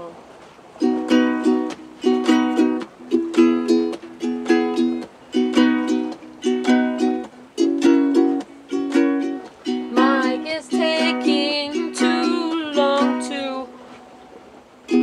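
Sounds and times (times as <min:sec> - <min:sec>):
ukulele strumming: 0:00.8 - 0:13.9.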